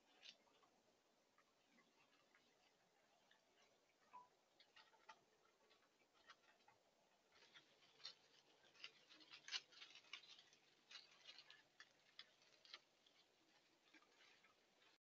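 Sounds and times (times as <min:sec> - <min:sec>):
animals rustling in plants: 0:00.0 - 0:15.0.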